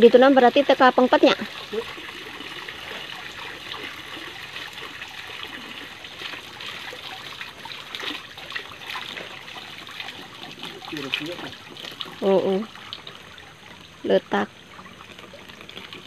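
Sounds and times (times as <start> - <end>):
light water splashing: 0.0 - 16.0
water trickling into pond: 0.0 - 16.0.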